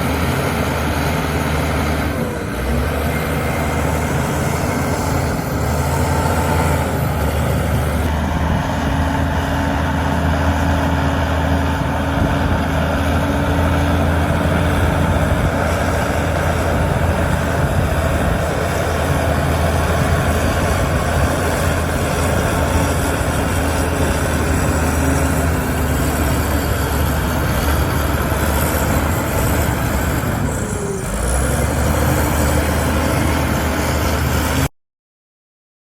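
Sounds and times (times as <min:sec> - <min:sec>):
heavy machinery engine droning: 0:00.0 - 0:34.7.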